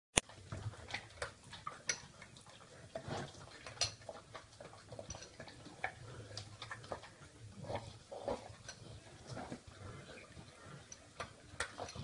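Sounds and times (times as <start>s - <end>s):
dog licking and smacking: 0.2s - 12.0s.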